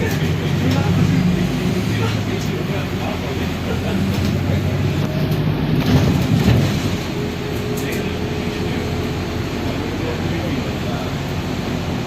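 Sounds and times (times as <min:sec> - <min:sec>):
people talking: 0:00.0 - 0:06.6, 0:07.4 - 0:12.0
bus interior low rumble: 0:00.0 - 0:12.0.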